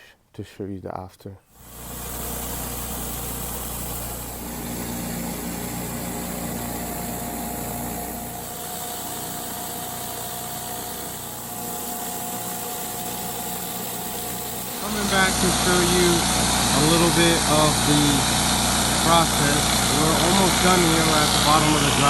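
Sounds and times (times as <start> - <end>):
pressure washer engine running: 1.6 - 22.0.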